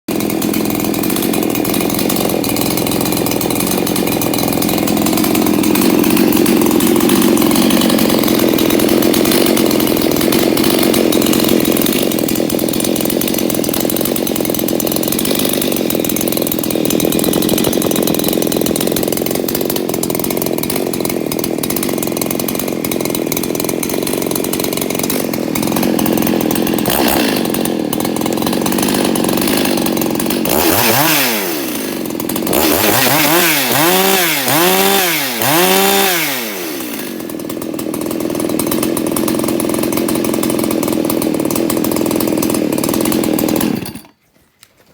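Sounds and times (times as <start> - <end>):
chainsaw running: 0.1 - 44.9.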